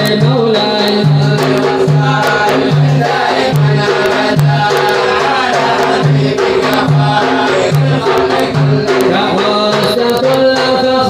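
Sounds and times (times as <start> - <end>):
backing chorus singing: 0.0 - 10.7
percussion beat: 0.0 - 11.0.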